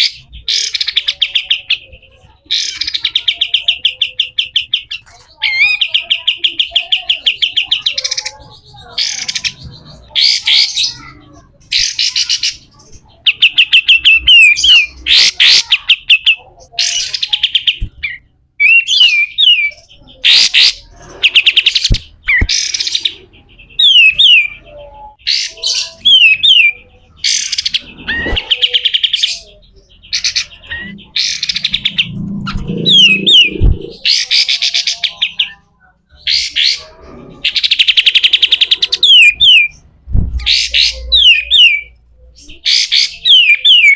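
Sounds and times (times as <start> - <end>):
bird singing rasping song: 0.0 - 43.9.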